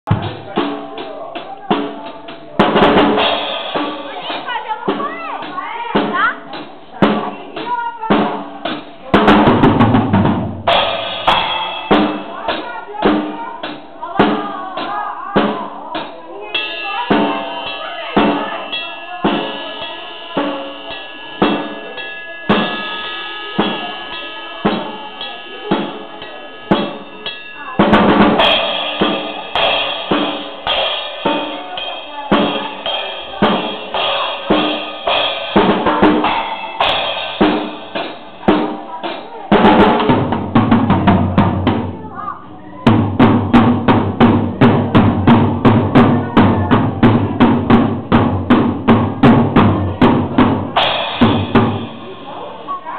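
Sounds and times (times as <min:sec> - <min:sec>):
drum kit beat: 0:00.0 - 0:52.9
cymbals ringing: 0:00.1 - 0:52.9.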